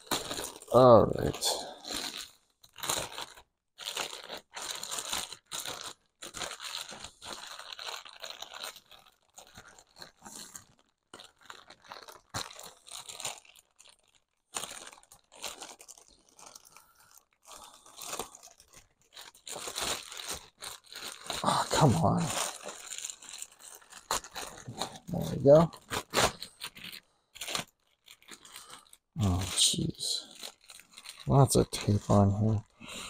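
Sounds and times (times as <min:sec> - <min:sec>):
packaging crinkling and tearing: 0:00.0 - 0:33.0.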